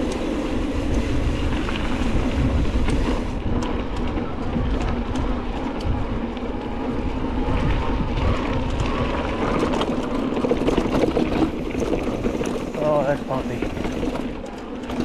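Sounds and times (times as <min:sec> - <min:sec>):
bike clicks and rattles: 0:00.0 - 0:15.0
tyres rolling on dirt trail: 0:00.0 - 0:15.0
wind buffeting microphone: 0:00.0 - 0:15.0.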